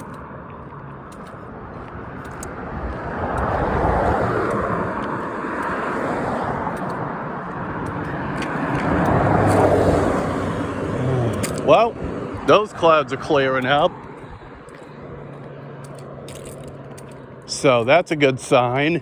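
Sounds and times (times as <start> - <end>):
cars passing by: 0.0 - 19.0.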